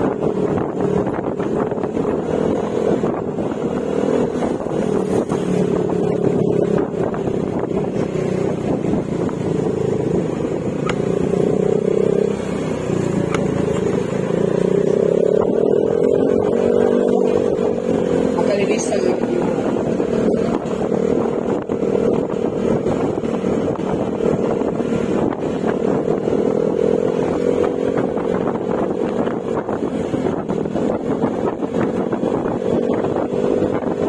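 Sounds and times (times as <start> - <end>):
scooter engine running: 0.0 - 34.0.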